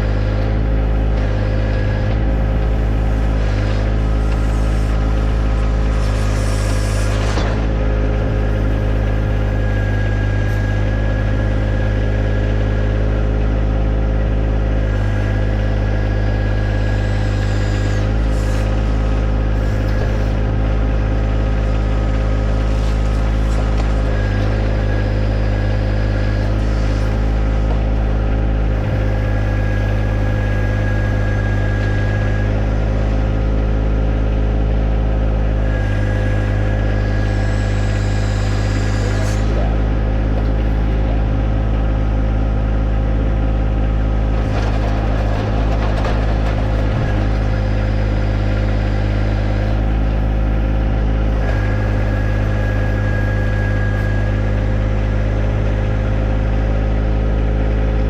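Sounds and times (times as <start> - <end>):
high whine: 0.0 - 58.0
tractor diesel engine running: 0.0 - 58.0.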